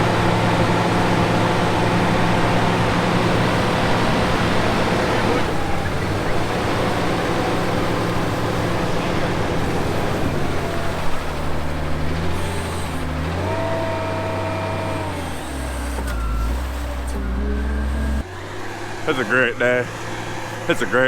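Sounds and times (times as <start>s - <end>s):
heavy diesel engine: 0.0s - 21.0s.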